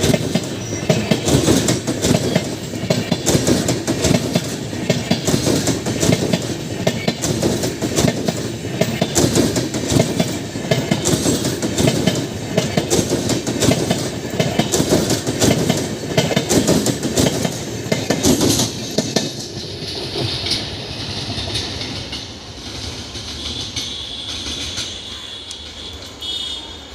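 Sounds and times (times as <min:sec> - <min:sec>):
train wheels clattering over rails: 0:00.0 - 0:26.2.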